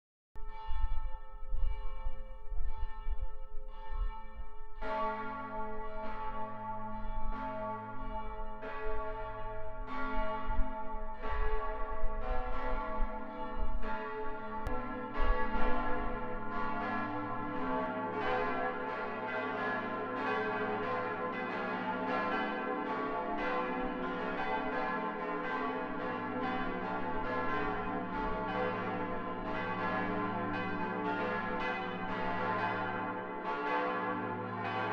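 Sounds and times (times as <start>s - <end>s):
church bells ringing: 0.5s - 34.9s
deeper bell tolling: 0.5s - 34.9s.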